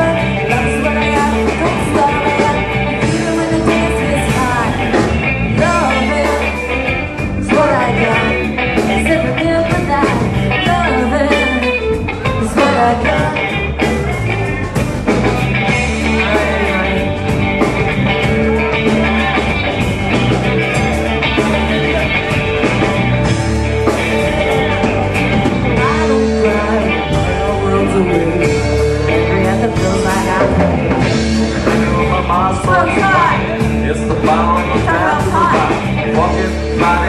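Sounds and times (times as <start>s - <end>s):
live rock band playing: 0.0s - 37.0s
person singing: 0.0s - 37.0s.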